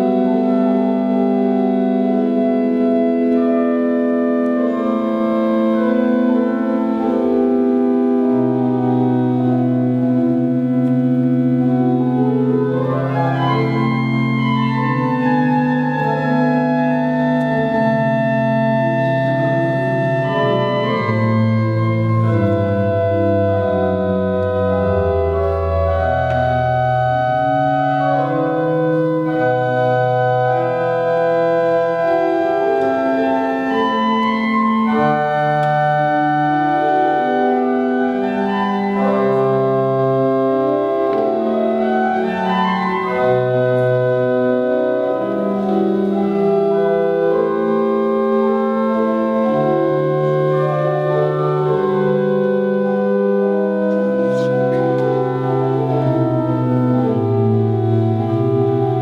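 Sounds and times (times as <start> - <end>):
organ playing baroque music: 0.0 - 59.0.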